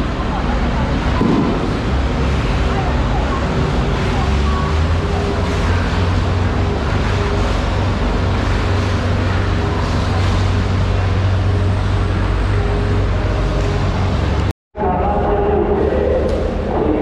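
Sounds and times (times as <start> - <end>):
loud mechanical drone: 0.0 - 17.0
low hum: 0.0 - 17.0.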